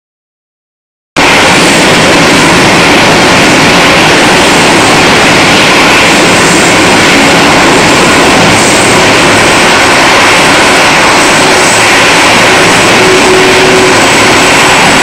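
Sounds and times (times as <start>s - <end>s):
jet engines roaring: 1.2s - 15.0s.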